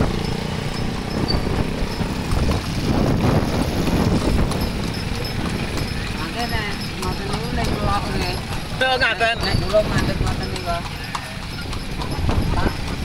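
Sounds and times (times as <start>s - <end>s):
horse hooves clip-clopping on pavement: 0.0s - 13.0s
motorcycles passing: 0.0s - 13.0s
street traffic: 0.0s - 13.0s.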